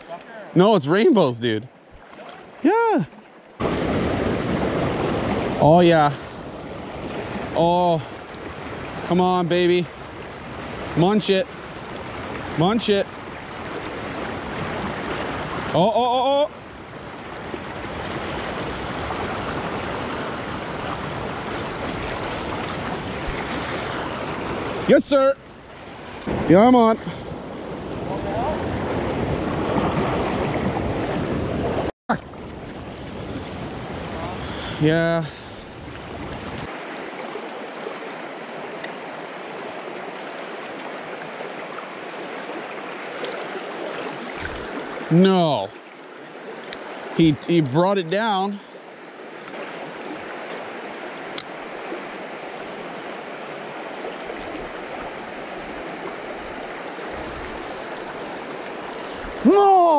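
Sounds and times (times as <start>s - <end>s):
river current rushing: 0.0s - 59.9s.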